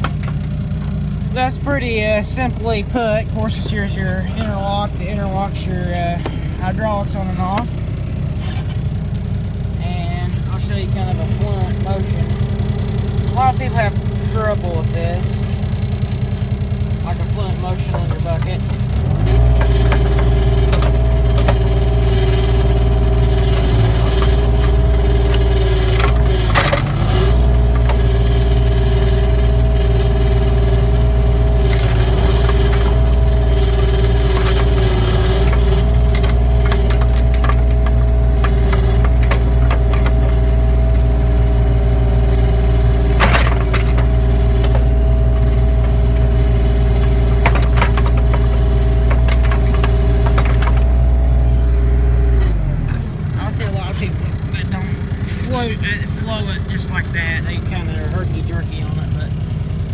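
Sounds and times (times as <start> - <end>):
excavator engine running: 0.0 - 59.9
hydraulic whine: 0.0 - 59.9.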